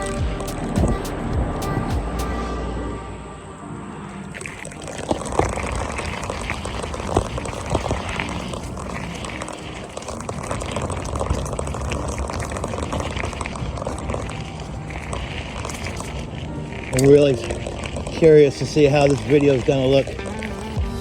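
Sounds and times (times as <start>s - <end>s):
bike tyre and wind rush: 3.9s - 21.0s.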